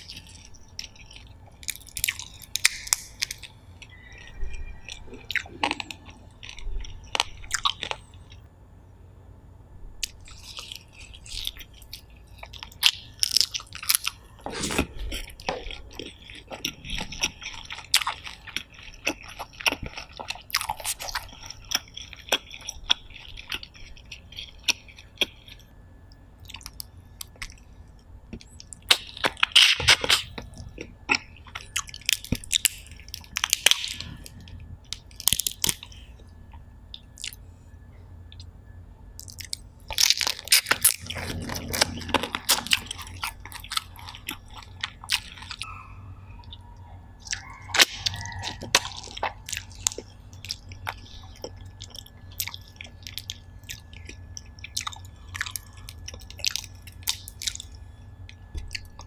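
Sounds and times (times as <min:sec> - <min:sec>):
wet chewing: 0:00.0 - 0:08.5, 0:10.0 - 0:38.5, 0:39.1 - 0:59.0.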